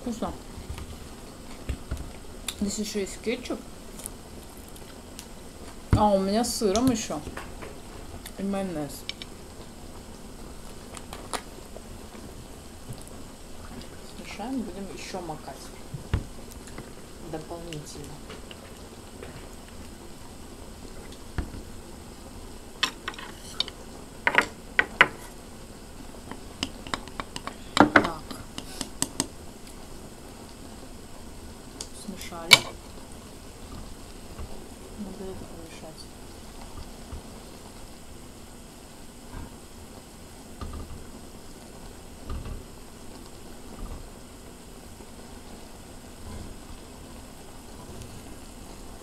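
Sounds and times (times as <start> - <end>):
broth boiling in a pan: 0.0 - 49.0.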